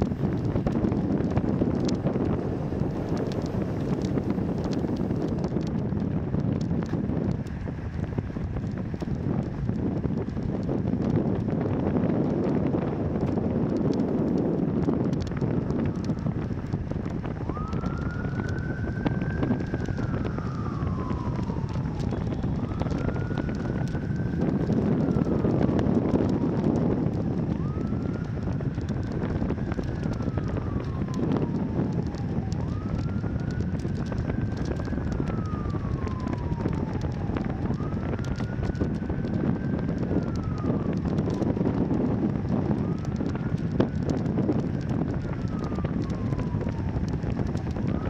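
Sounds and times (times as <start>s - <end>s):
wind noise on microphone: 0.0s - 48.0s
siren wailing: 0.2s - 5.7s, 12.3s - 48.0s.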